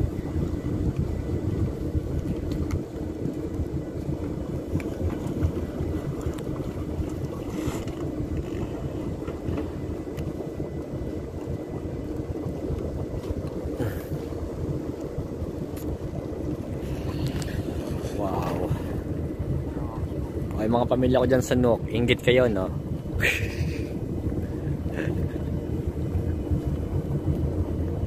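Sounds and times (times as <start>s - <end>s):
motorboat engine running: 0.0s - 28.0s
wind rumbling on microphone: 0.0s - 28.0s.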